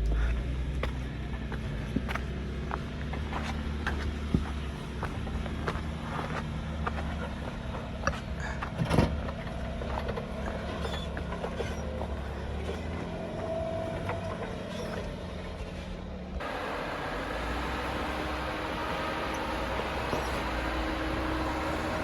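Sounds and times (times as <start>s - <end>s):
engine running low: 0.0s - 22.0s.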